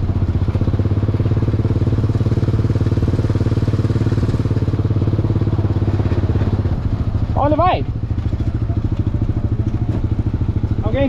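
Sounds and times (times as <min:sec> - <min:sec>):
engine running with fast putter: 0:00.0 - 0:11.0.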